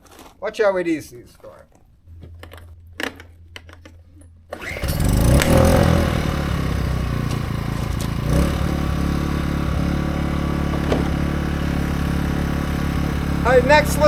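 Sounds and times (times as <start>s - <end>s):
generator starting and running: 2.0s - 14.0s.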